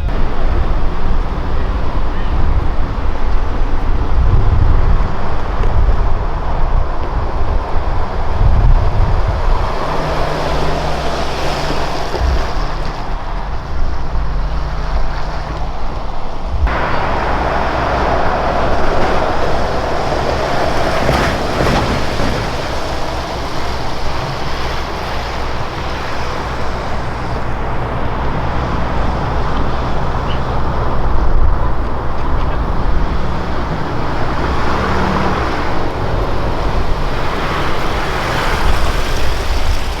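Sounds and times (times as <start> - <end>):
low engine drone: 0.0 - 40.0
road and wind noise: 0.0 - 40.0.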